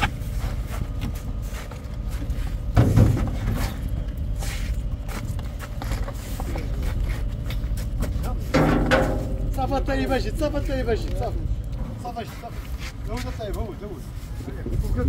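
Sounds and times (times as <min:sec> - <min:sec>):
low rumble: 0:00.0 - 0:12.2.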